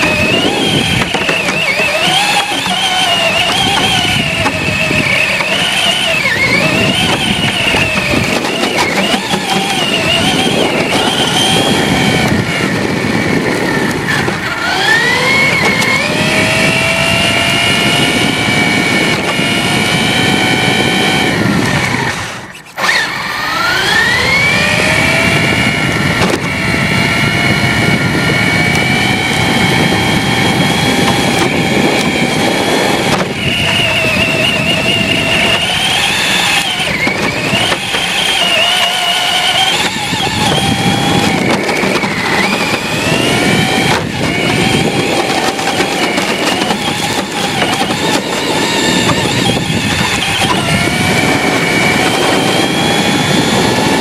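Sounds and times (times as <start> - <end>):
rough running noise: 0.0 - 23.0, 23.8 - 54.0
electric motor whining: 0.0 - 54.0.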